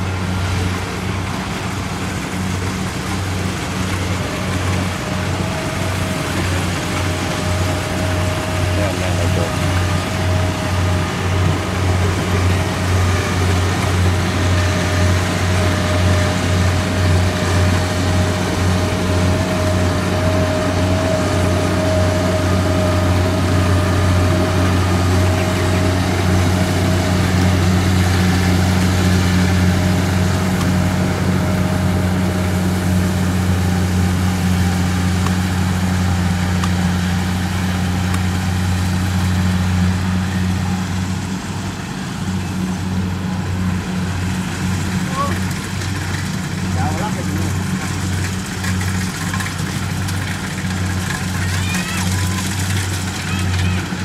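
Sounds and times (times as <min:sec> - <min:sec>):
combine harvester diesel engine hum: 0:00.0 - 0:54.0.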